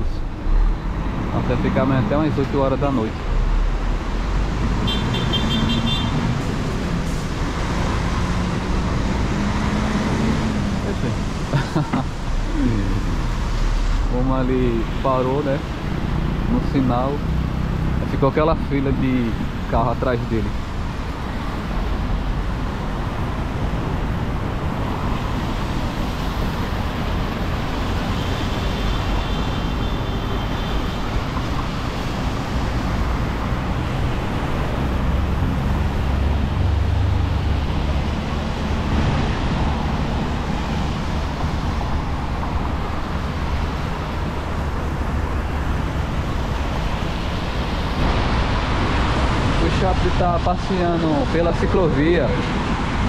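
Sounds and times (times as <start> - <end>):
heavy vehicle rumble: 0.0 - 53.0
road traffic passing: 0.0 - 53.0.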